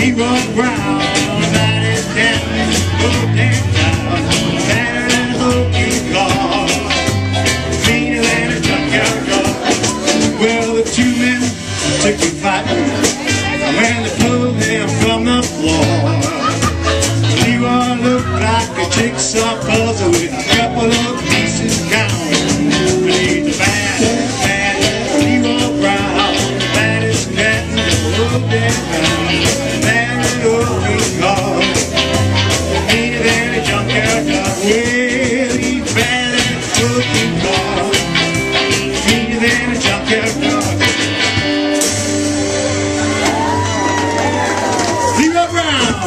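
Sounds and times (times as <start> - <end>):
drum kit beat: 0.0 - 46.0
electric guitars: 0.0 - 46.0.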